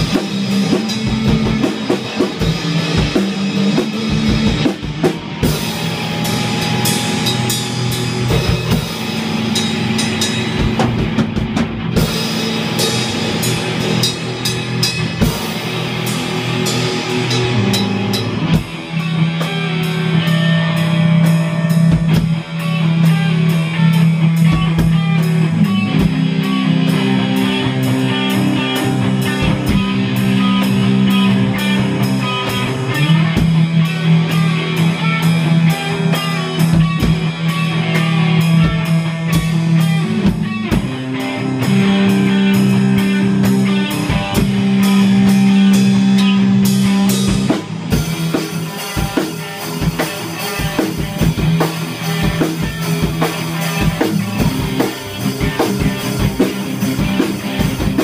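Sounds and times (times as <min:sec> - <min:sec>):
drum kit playing steady beat: 0:00.0 - 0:58.0
electric guitars: 0:00.0 - 0:58.0.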